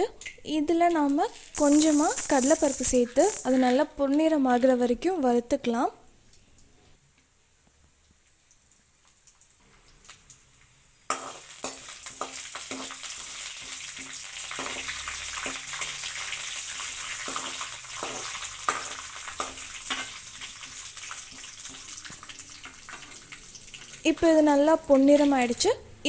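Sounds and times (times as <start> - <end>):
food sizzling in hot oil: 1.0 - 4.2, 8.2 - 26.0.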